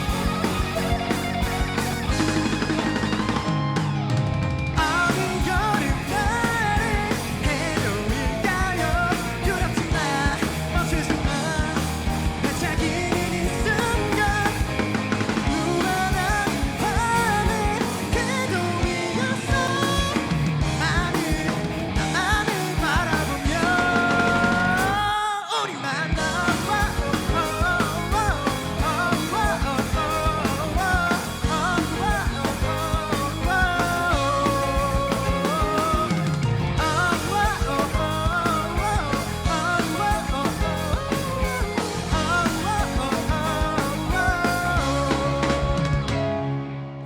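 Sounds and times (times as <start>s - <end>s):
live rock band: 0.0s - 47.0s
lead vocal singing: 4.8s - 46.4s.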